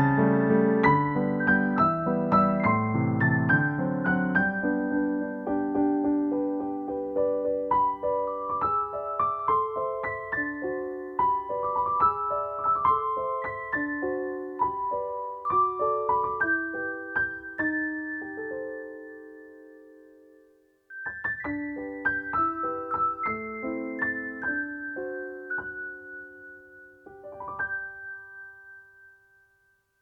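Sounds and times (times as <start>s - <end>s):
gentle piano melody: 0.0s - 30.0s.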